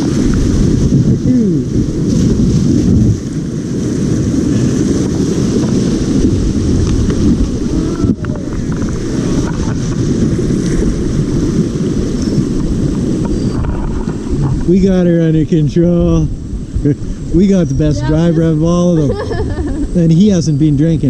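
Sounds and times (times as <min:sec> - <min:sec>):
muffled rushing river water: 0:00.0 - 0:21.0.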